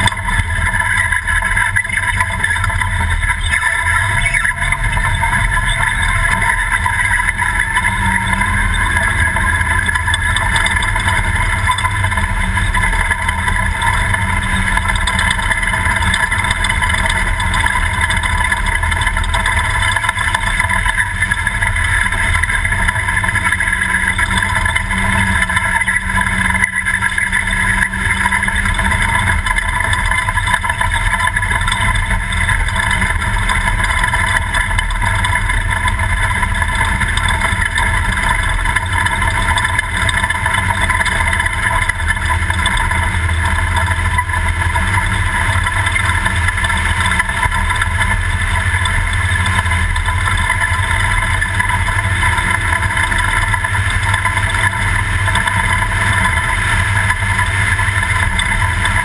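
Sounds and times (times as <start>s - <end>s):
race truck engine at speed: 0.0s - 59.0s.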